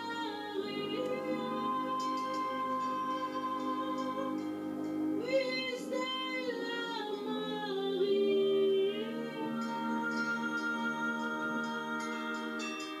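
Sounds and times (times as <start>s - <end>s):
wind band sustained chords: 0.0s - 13.0s
woman singing slow melody: 0.0s - 13.0s.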